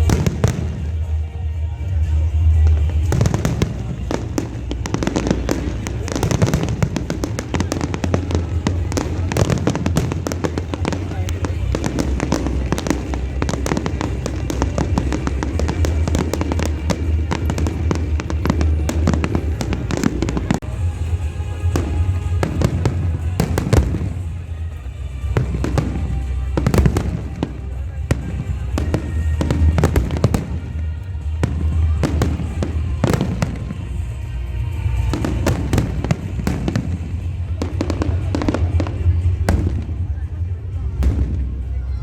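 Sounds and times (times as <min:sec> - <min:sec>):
loud firework booms: 0:00.0 - 0:01.3, 0:02.0 - 0:42.0
fireworks crackling and banging: 0:00.0 - 0:42.0
music playing: 0:00.0 - 0:42.0.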